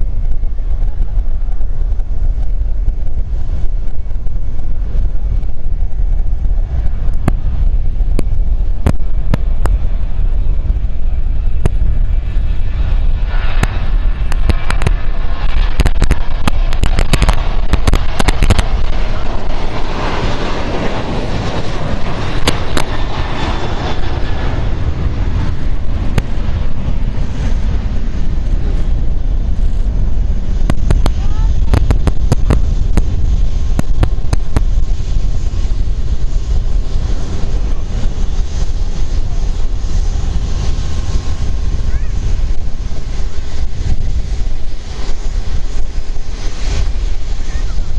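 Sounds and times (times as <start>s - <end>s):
jet engine rumble and hiss: 0.0s - 47.9s.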